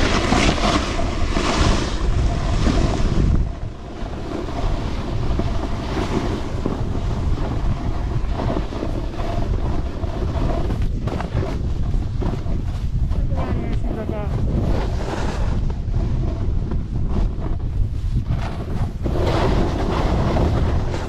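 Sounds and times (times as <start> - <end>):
skis sliding on snow: 0.0 - 21.0
wind buffeting microphone: 0.0 - 21.0.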